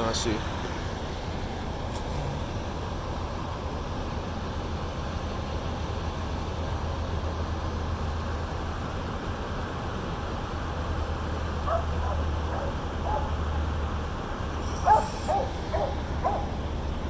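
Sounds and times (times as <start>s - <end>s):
vehicle engine rumbling: 0.0s - 8.6s, 9.8s - 17.0s
outdoor noise haze: 0.0s - 17.0s.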